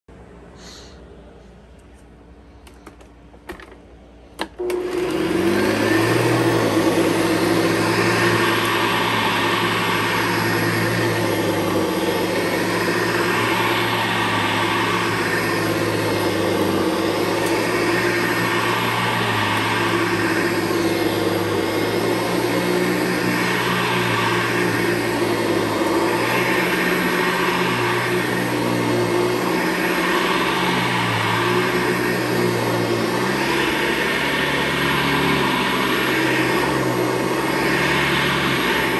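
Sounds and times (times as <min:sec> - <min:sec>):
vacuum cleaner motor running: 0:04.4 - 0:38.9
vacuum hiss over carpet: 0:04.6 - 0:38.9.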